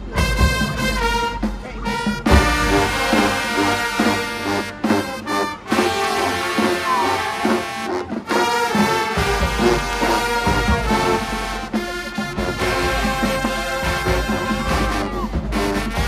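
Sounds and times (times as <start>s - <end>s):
marching band brass playing: 0.0s - 16.0s.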